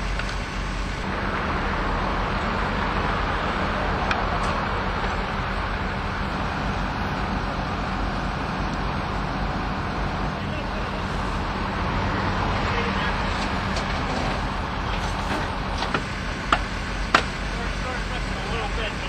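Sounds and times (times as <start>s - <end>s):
engine hum: 0.0s - 19.0s
road traffic: 0.0s - 19.0s.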